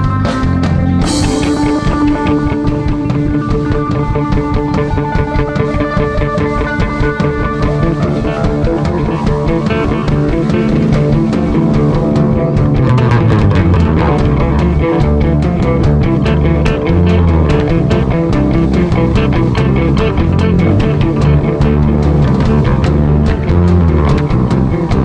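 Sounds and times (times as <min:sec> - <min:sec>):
psychedelic rock music: 0:00.0 - 0:25.0.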